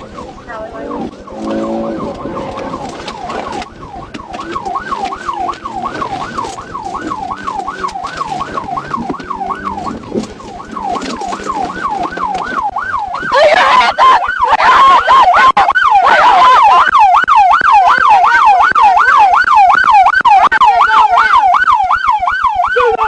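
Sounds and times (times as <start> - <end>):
moving car noise: 0.0 - 22.8
police siren yelping: 0.0 - 23.0.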